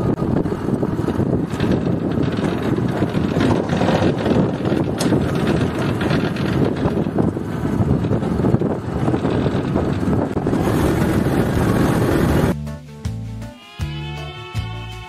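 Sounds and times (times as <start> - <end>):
tractor engine running: 0.0 - 12.6
wind rumbling on microphone: 0.0 - 12.6.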